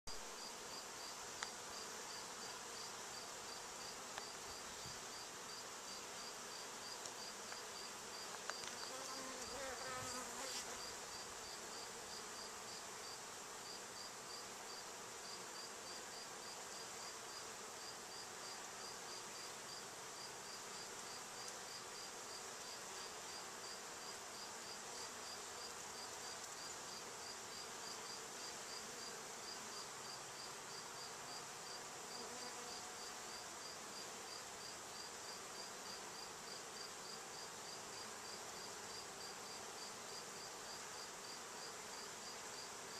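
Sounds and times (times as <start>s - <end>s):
bee buzzing close past: 0.1s - 42.9s
bees humming: 0.3s - 42.9s.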